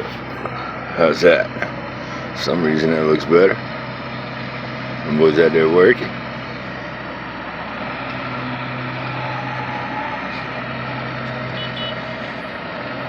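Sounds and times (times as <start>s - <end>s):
construction machinery engine humming: 0.0s - 13.0s.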